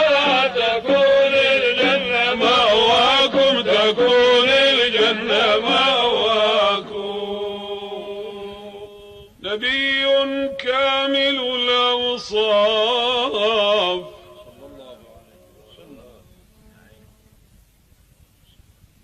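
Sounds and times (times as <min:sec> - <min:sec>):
man singing melismatic notes: 0:00.0 - 0:17.3.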